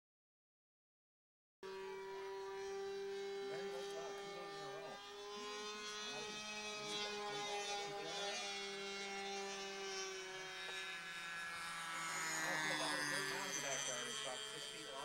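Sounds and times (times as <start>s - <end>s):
steady motor drone: 1.6s - 15.0s.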